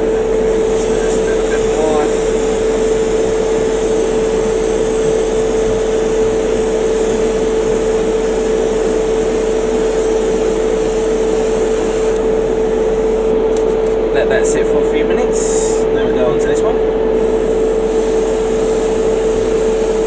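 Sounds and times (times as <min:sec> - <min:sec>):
airbrush spraying hiss: 0:00.0 - 0:13.4, 0:17.1 - 0:20.0
compressor humming: 0:00.0 - 0:20.0.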